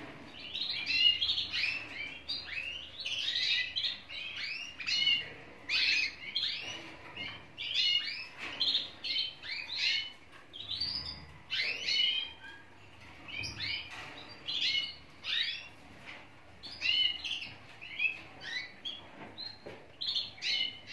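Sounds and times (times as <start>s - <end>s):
canaries chirping: 0.0s - 20.9s.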